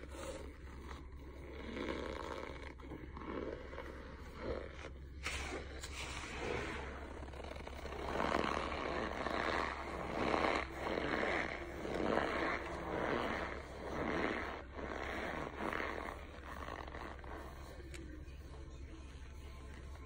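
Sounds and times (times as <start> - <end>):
starch chunks crunching: 0.0 - 18.1.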